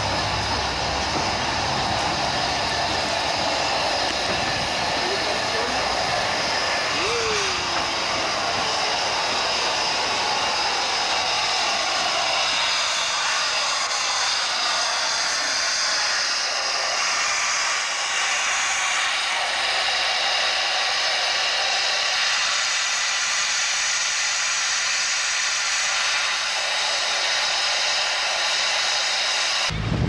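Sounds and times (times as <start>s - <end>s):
steam locomotive hissing: 0.0s - 29.8s.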